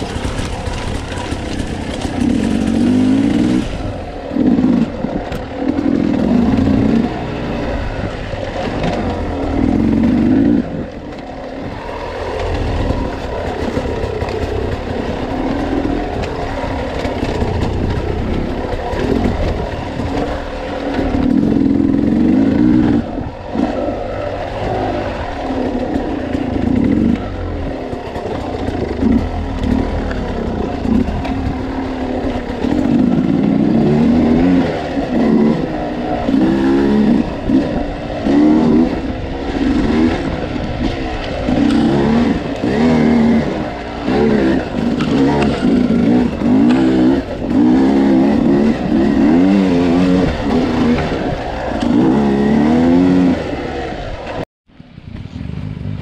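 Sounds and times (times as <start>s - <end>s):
dirt bike engine revving: 0.0s - 54.4s.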